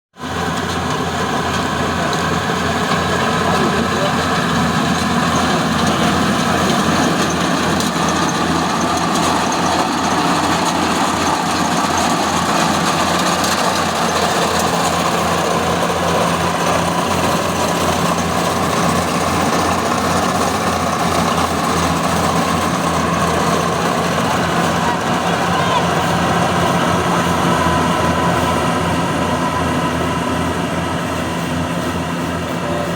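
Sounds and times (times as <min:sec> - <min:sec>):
combine harvester engine droning: 0:00.2 - 0:32.9.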